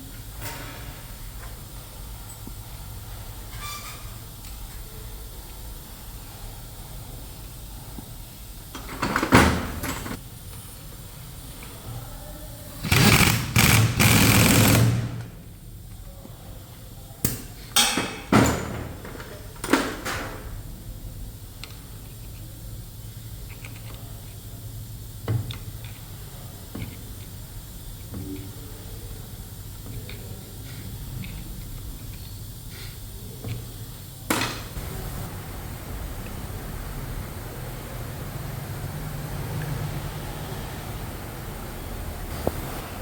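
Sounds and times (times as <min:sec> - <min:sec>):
machinery hum: 0:00.0 - 0:17.7, 0:20.5 - 0:43.0.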